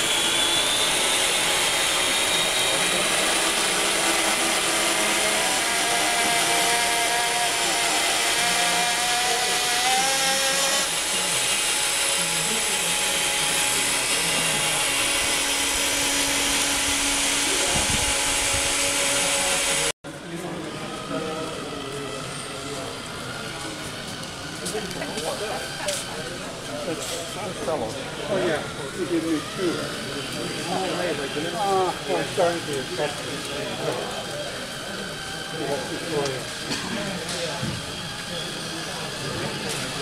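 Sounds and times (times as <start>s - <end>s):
toy truck motor whining: 0.0s - 19.9s, 21.0s - 40.0s.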